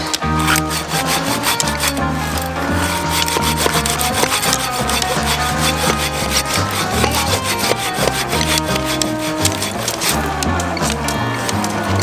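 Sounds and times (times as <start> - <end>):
pruning saw cutting log: 0.0 - 12.0.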